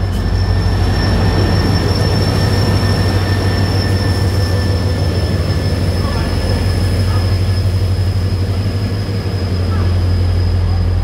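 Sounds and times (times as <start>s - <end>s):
high-pitched squeal: 0.0s - 11.0s
train rumbling: 0.0s - 11.0s.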